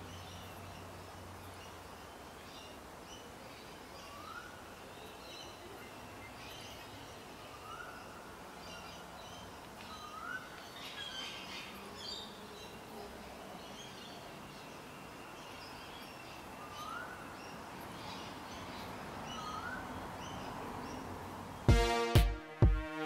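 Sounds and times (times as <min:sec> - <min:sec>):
birds chirping: 0:00.0 - 0:22.1.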